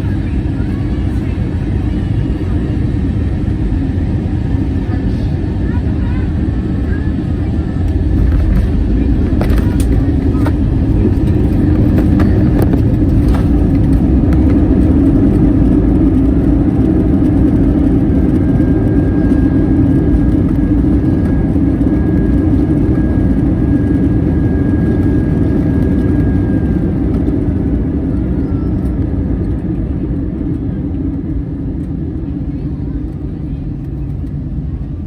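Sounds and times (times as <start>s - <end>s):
jet cabin rumble: 0.0s - 35.0s.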